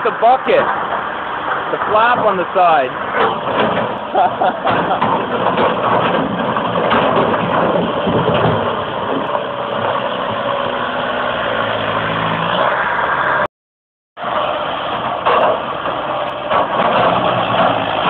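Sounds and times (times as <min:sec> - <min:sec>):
excavator diesel engine running: 0:00.0 - 0:13.5, 0:14.2 - 0:18.0.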